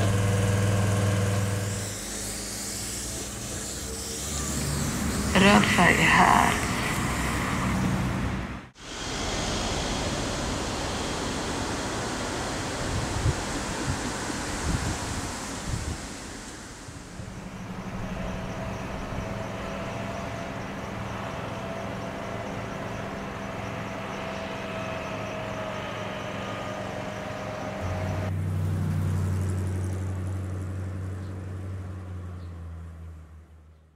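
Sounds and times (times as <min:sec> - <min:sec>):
car engine humming: 0:00.0 - 0:32.9
street traffic: 0:00.0 - 0:33.9.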